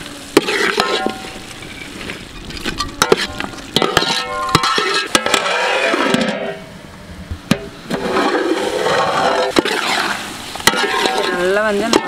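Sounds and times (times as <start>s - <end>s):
light sizzle: 0.0s - 12.0s.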